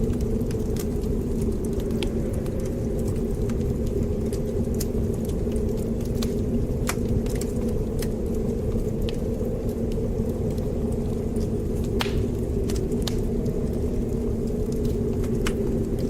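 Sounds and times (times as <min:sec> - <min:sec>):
low rumble of fire flames: 0:00.0 - 0:16.0
wood fire crackles and pops: 0:00.0 - 0:16.0.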